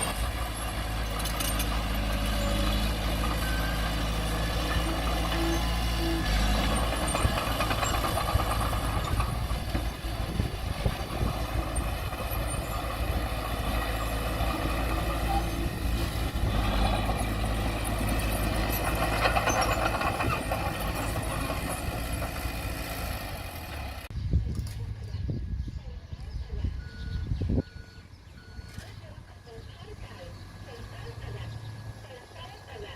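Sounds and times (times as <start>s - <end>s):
bulldozer diesel engine running: 0.0s - 24.3s, 24.9s - 32.9s.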